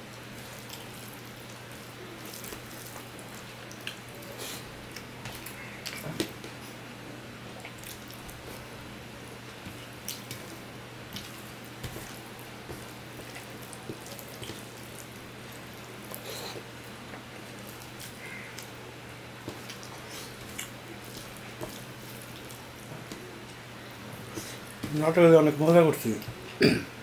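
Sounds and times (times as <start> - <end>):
man chewing wetly: 0.0 - 6.8, 7.5 - 8.7, 9.4 - 24.9.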